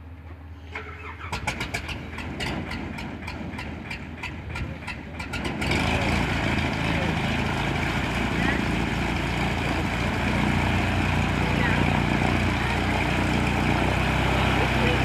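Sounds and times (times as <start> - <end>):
aircraft engine starting: 0.5 - 15.0.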